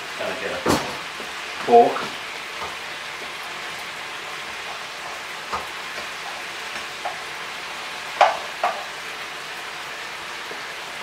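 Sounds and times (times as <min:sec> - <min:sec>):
stir fry sizzling in a frying pan: 0:00.0 - 0:11.0.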